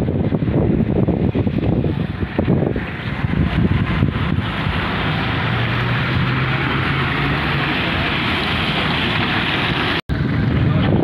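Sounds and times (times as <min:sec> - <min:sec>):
faint engine hum: 0:00.0 - 0:11.0
traffic on wet road: 0:00.0 - 0:11.0
wind buffeting microphone: 0:00.0 - 0:11.0.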